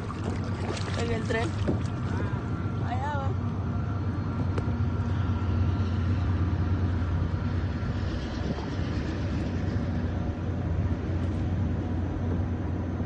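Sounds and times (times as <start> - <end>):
train passing with low rumble: 0.0 - 13.0.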